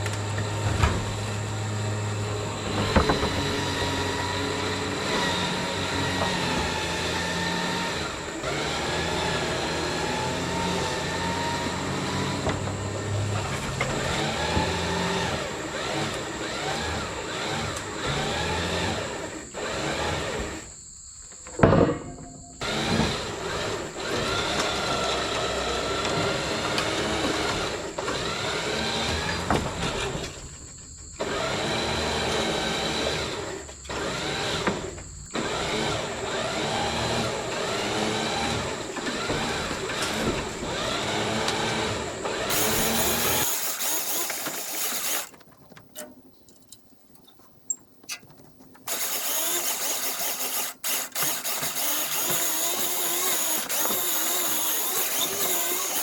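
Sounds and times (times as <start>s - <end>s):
electric winch motor whine: 0.0s - 20.8s, 22.5s - 45.4s, 48.9s - 56.0s.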